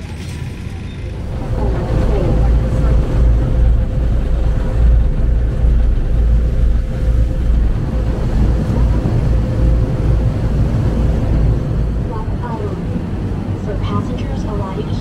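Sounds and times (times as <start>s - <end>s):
boat engine rumbling: 0.0s - 15.0s
wind on microphone: 1.2s - 15.0s.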